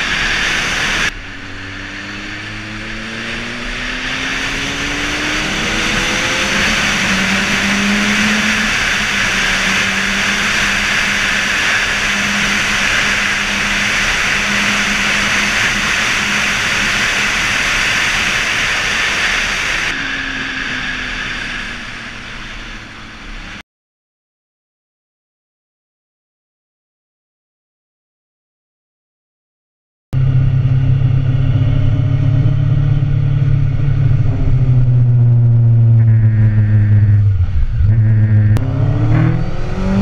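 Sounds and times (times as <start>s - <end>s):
motorcycle engine revving: 0.0s - 23.6s, 30.2s - 40.0s
wind rush: 0.0s - 23.6s, 30.2s - 40.0s.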